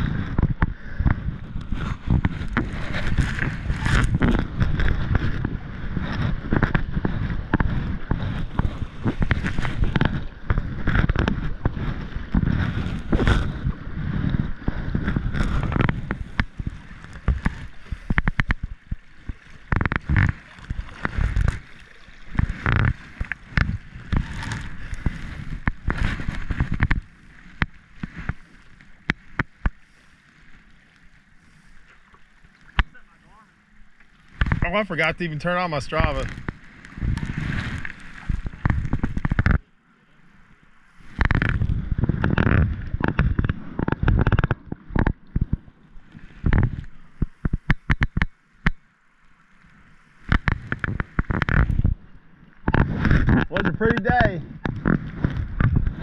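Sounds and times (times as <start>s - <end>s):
paddle strokes splashing: 0.0s - 56.0s
river water rushing against hull: 0.0s - 56.0s.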